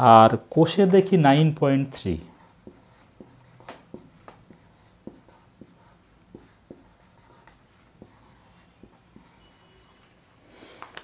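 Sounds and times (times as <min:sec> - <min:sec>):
marker writing on whiteboard: 0:00.8 - 0:10.3.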